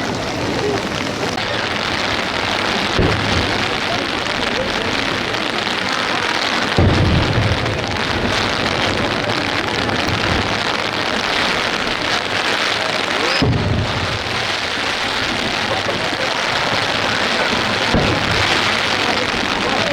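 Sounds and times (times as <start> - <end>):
heavy rain: 0.0 - 19.9
firework shells booming: 0.2 - 19.9.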